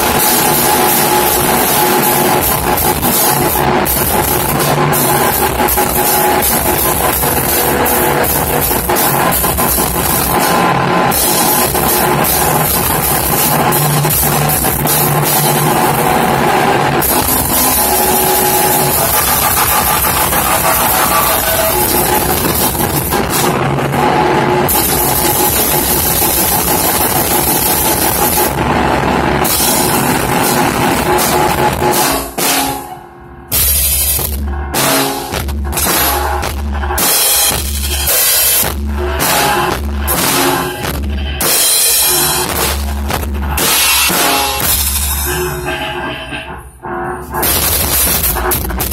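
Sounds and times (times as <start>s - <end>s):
deep bass pulses: 0.0s - 32.4s, 33.4s - 46.0s
distorted noise music: 0.0s - 48.9s.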